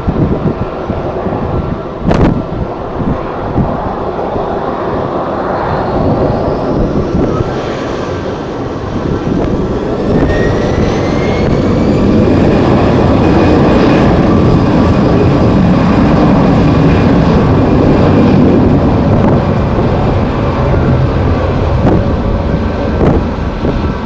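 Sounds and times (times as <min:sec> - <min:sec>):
jet engines running loudly: 0:00.0 - 0:24.0
rising engine whine: 0:00.0 - 0:24.0
wind on microphone: 0:00.0 - 0:24.0.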